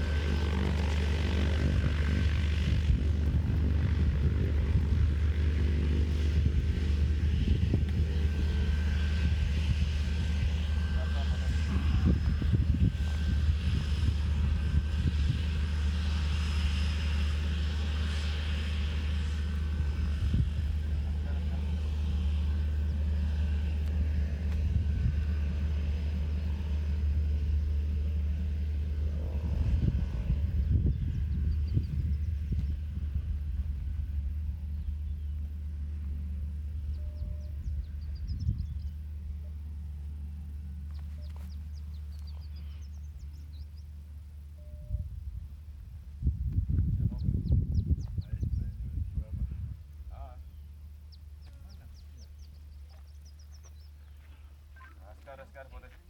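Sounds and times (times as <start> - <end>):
turboprop engine and propeller: 0.0 - 56.0.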